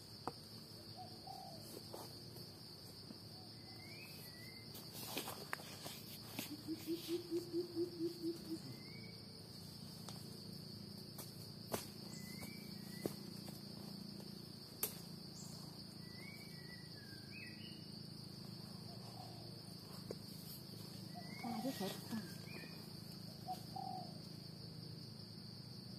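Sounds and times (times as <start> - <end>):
insect drone: 0.0 - 25.9.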